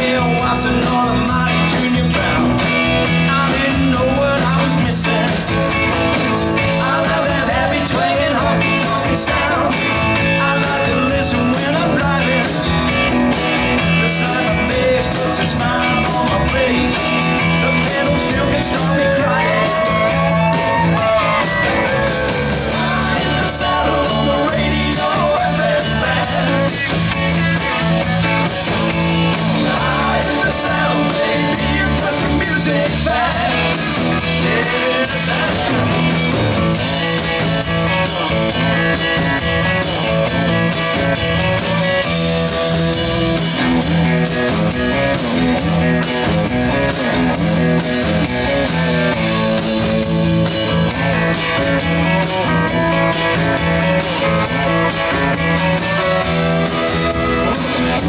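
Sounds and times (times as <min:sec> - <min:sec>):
bass guitar: 0:00.0 - 0:58.0
drums with steady beat: 0:00.0 - 0:58.0
electric lead guitar: 0:00.0 - 0:58.0
strummed acoustic guitar: 0:00.0 - 0:58.0.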